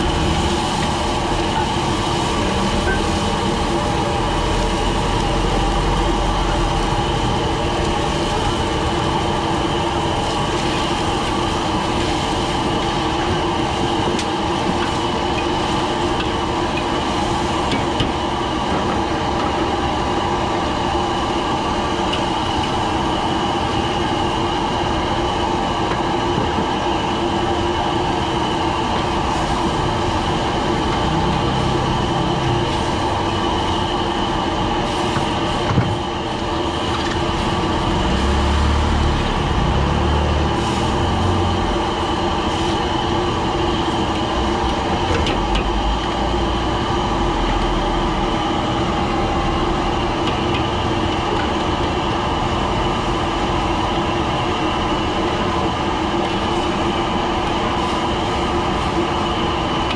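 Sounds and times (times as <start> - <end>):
gas burners roaring: 0.0 - 59.9.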